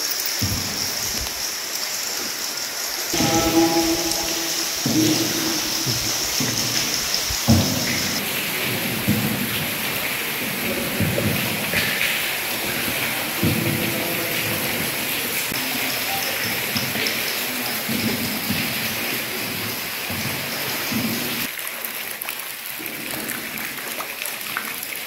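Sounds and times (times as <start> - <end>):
water hissing in a cave: 0.0 - 25.0.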